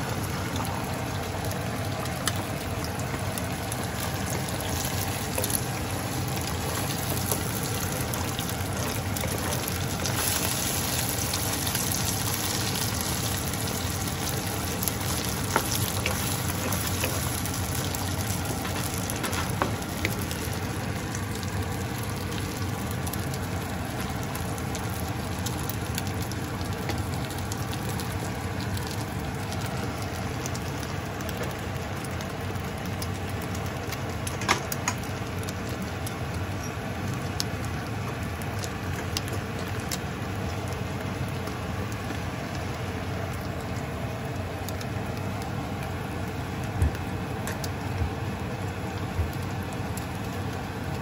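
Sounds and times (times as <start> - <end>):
omelette sizzling with pops: 0.0 - 51.0.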